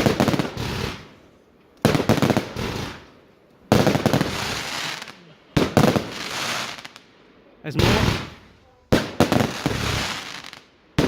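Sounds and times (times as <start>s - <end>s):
fireworks banging and crackling: 0.0s - 7.1s, 7.7s - 11.0s.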